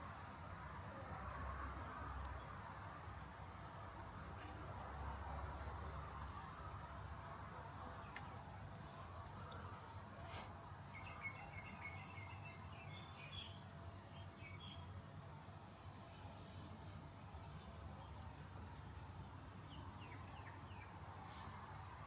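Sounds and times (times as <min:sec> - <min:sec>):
small birds chirping: 0:00.9 - 0:22.0.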